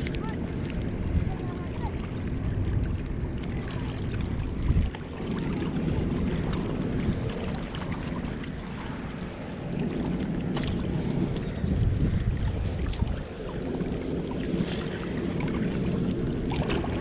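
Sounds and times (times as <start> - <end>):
sea water washing against rocks: 0.0 - 17.0
wind rumbling on microphone: 0.0 - 17.0.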